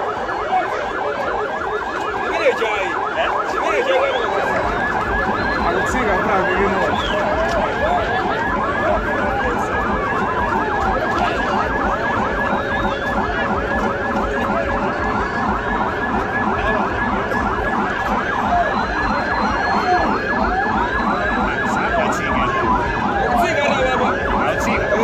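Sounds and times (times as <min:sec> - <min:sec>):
sirens yelping: 0:00.0 - 0:25.0
wailing siren: 0:00.0 - 0:25.0.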